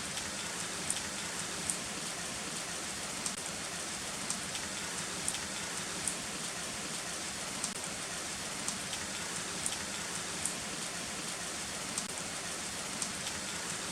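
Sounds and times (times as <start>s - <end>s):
heavy rain hissing: 0.0s - 13.9s.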